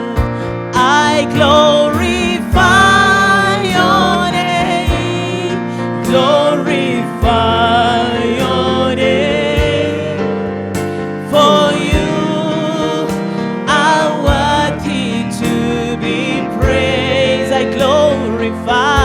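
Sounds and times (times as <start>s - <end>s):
sung vocals: 0.0s - 19.0s
worship band playing: 0.0s - 19.0s.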